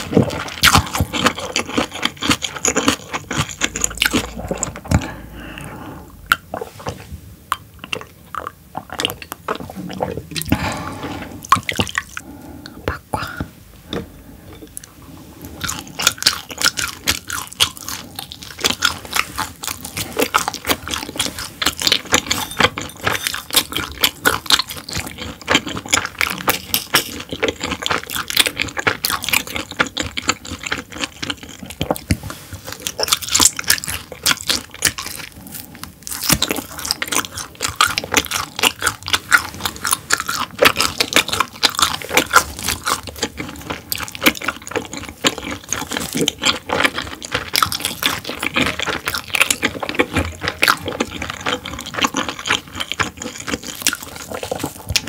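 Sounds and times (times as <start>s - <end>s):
chewing with crunching: 0.0s - 55.0s.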